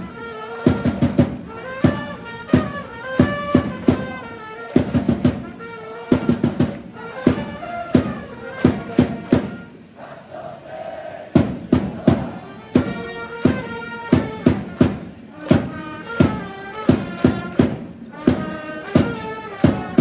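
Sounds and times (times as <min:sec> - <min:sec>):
drum beats: 0:00.0 - 0:10.0, 0:11.4 - 0:20.0
trumpet melody: 0:00.0 - 0:10.0, 0:12.2 - 0:20.0.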